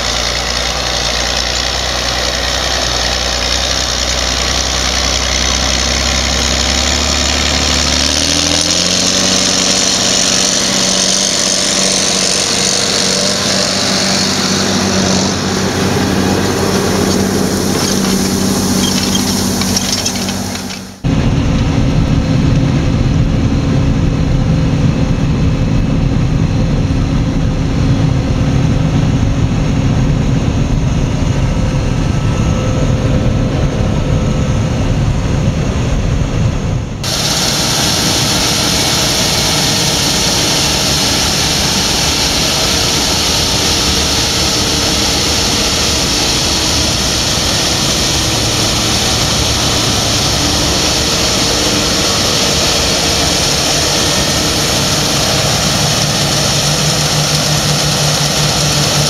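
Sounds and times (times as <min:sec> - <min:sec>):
combine harvester drone: 0:00.0 - 0:59.0
tractor diesel engine running: 0:00.0 - 0:59.0.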